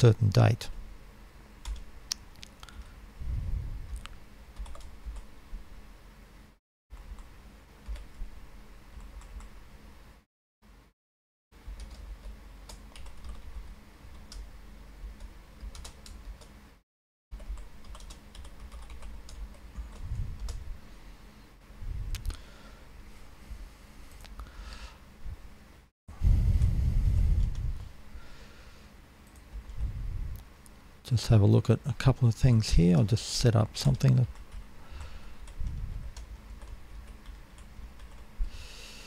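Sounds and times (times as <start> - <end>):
low steady hum: 0.0 - 10.9, 17.4 - 39.0.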